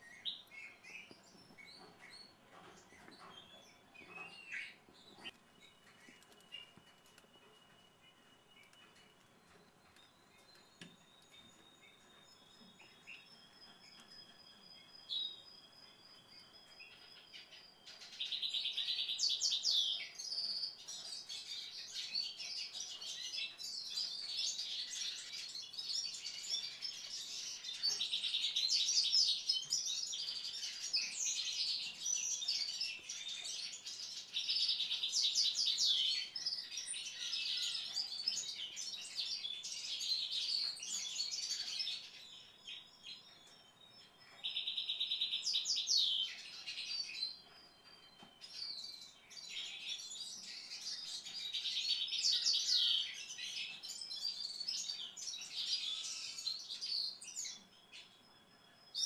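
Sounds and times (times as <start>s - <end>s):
songbird trilling song phrase: 3.2s - 59.0s.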